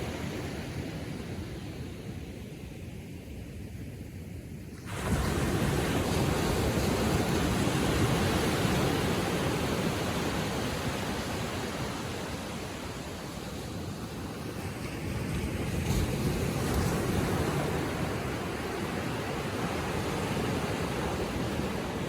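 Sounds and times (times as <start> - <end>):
ocean waves on shore: 0.0 - 22.0.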